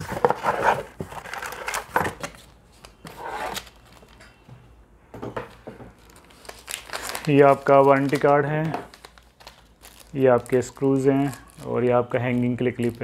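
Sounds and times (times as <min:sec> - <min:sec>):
packaging rustling and scraping: 0:00.0 - 0:04.4, 0:05.5 - 0:13.0.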